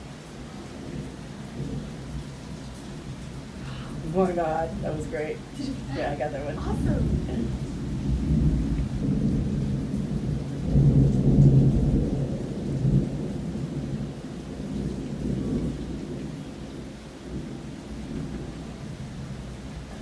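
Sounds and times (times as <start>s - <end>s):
thunder rumbling: 0.7s - 20.0s.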